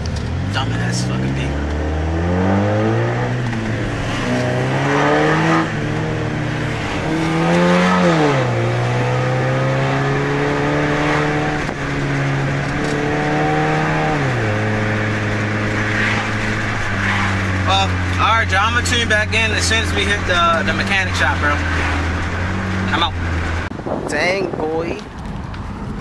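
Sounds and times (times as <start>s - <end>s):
car engine accelerating through gears: 0.0s - 23.7s.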